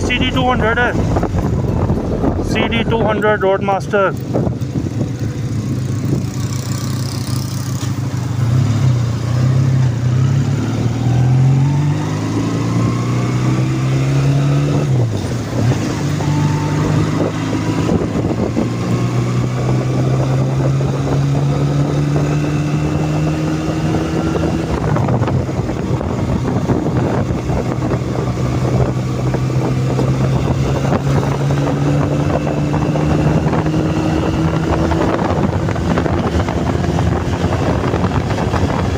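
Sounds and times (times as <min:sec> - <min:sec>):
motorcycle engine shifting gears: 0:00.0 - 0:38.9.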